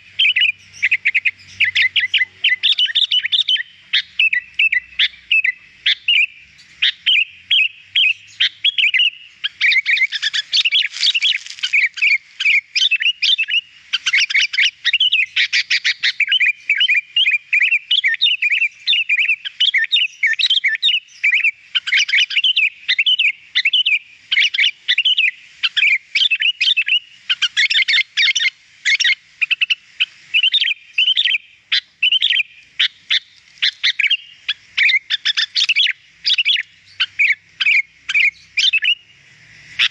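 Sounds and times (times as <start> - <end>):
bird chirping and whistling: 0.0 - 29.8, 30.4 - 39.1.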